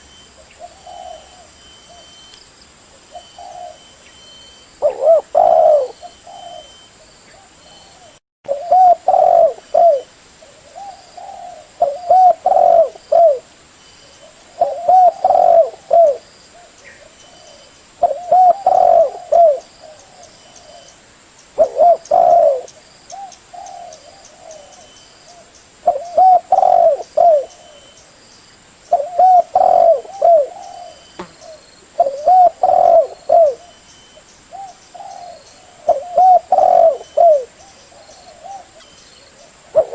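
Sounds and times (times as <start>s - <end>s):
dove cooing: 0.4s - 2.2s, 3.1s - 4.1s, 4.8s - 13.5s, 14.2s - 20.9s, 21.6s - 28.0s, 28.9s - 33.8s, 34.5s - 39.9s.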